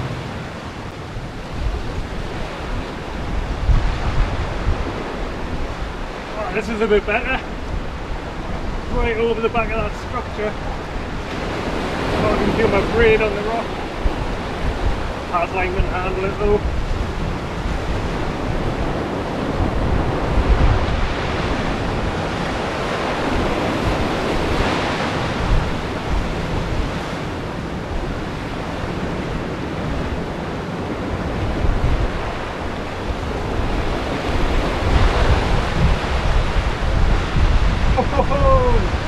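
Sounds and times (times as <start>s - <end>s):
surf breaking against rocks: 0.0s - 39.0s
wind rumbling on microphone: 0.0s - 39.0s.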